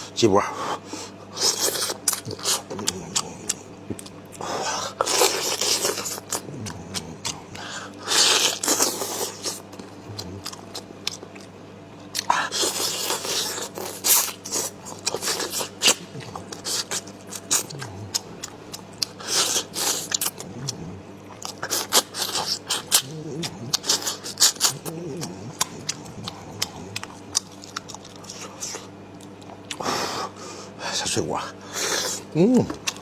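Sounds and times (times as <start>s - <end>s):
person chewing and crunching bones: 1.3s - 30.5s, 31.6s - 33.0s.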